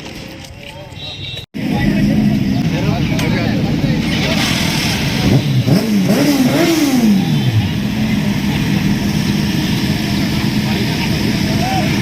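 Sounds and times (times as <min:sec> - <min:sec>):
motorcycle engine revving: 0:01.6 - 0:12.0
other engines running: 0:01.6 - 0:12.0.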